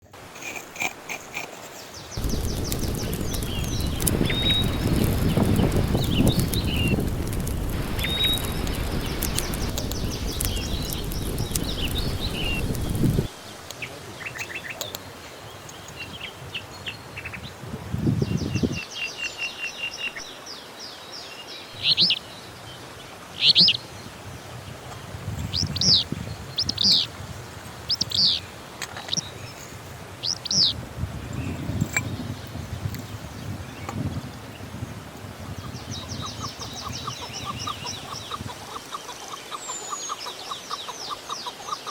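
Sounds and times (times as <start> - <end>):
songbirds chirping and trilling: 1.7 - 17.6, 18.2 - 41.9.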